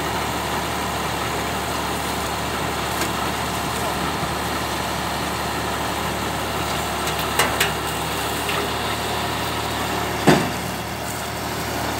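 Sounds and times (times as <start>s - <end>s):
round baler working: 0.0s - 11.9s
tractor engine running: 0.0s - 11.9s.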